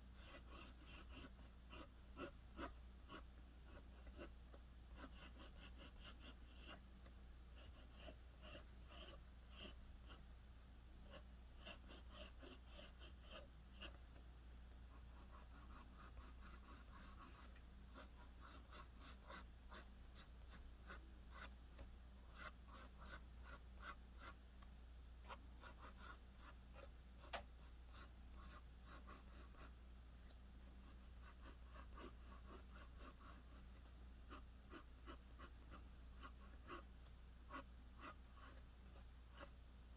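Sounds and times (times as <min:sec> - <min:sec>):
faint low hum: 0:00.0 - 0:39.9
pencil scratching on paper: 0:00.1 - 0:06.8, 0:07.5 - 0:10.2, 0:11.0 - 0:14.0, 0:14.9 - 0:21.6, 0:22.3 - 0:24.4, 0:25.2 - 0:29.7, 0:30.6 - 0:36.9, 0:37.5 - 0:39.5.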